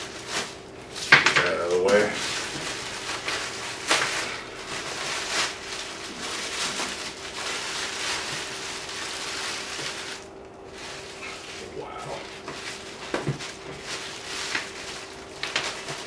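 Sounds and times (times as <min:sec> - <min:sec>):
faint steady hum: 0:00.0 - 0:16.0
plastic wrapping crinkling: 0:00.0 - 0:16.0.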